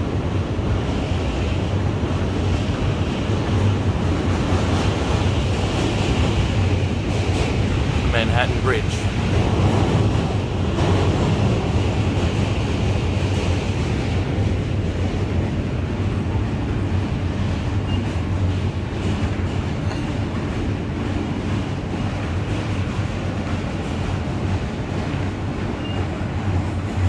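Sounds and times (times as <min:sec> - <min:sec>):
subway train rumbling: 0:00.0 - 0:27.0.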